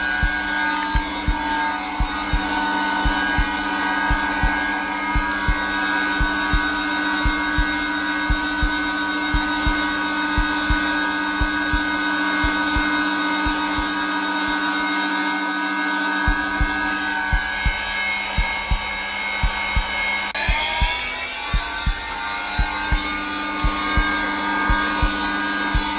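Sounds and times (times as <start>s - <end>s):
heartbeat thumps: 0.0s - 14.8s, 16.1s - 25.9s
vacuum cleaner motor whine: 0.0s - 25.9s.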